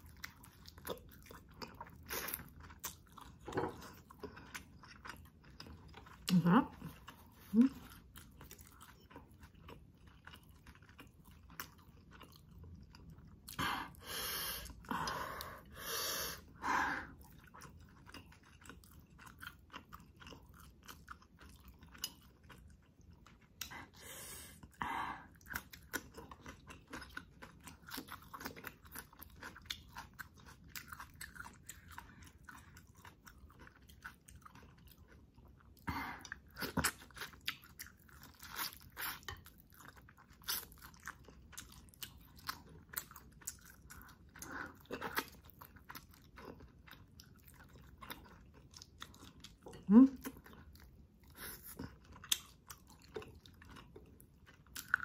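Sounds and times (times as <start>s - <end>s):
wet chewing: 0.0s - 14.0s, 17.1s - 24.0s, 24.6s - 55.0s.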